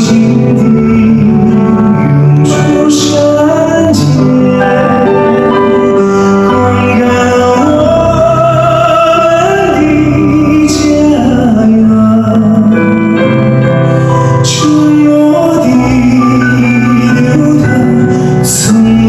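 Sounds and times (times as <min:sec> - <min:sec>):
instrumental accompaniment: 0:00.0 - 0:19.0
man singing ballad: 0:00.0 - 0:19.0.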